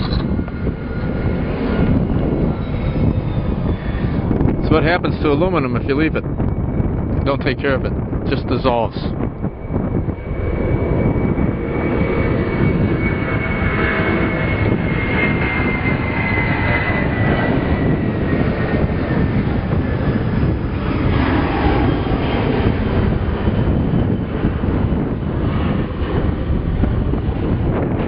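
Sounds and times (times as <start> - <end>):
jet engine rush and whine: 0.0 - 28.0.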